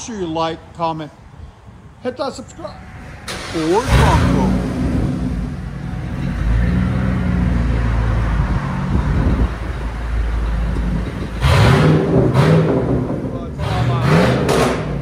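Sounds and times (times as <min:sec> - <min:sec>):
car engine idling and revving: 0:02.6 - 0:15.0.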